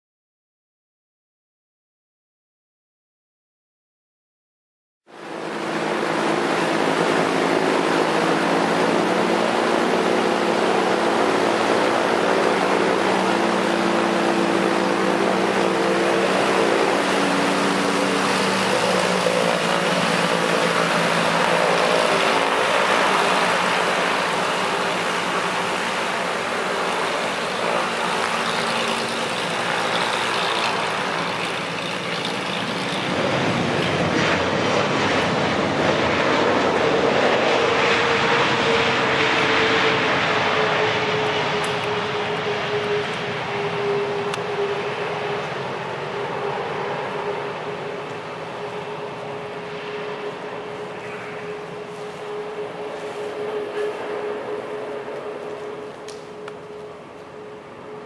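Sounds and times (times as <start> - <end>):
aircraft rolling on runway: 5.1 - 58.0
jet engines whining: 5.1 - 58.0.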